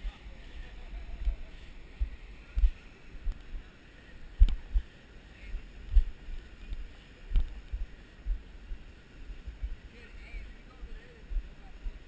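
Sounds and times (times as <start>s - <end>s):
wind buffeting camera microphone: 0.0s - 12.0s.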